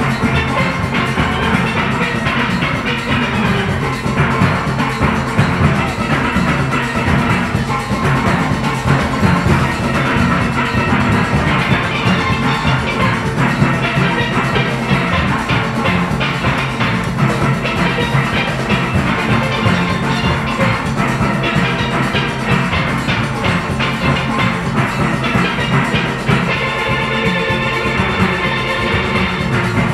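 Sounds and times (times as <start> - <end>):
drum kit and percussion rhythm: 0.0 - 29.9
steel pans playing melody: 0.0 - 29.9.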